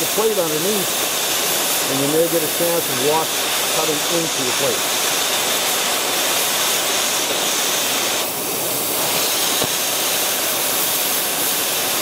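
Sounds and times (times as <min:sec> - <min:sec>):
torch oxygen jet hissing: 0:00.0 - 0:12.0.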